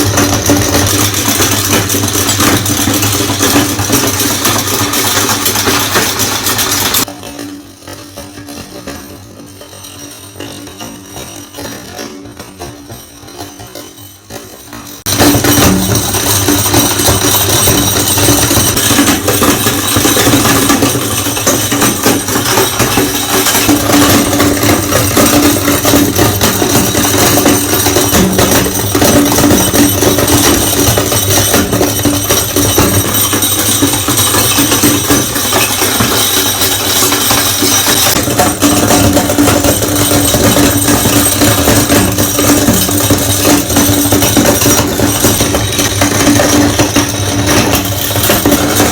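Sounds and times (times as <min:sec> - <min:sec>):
marbles clattering inside grinder: 0:00.0 - 0:48.9.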